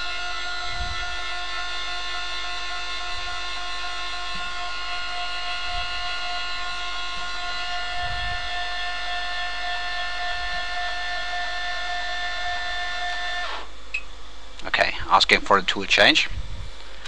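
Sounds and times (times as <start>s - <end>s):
drive motors whining: 0.0s - 14.1s.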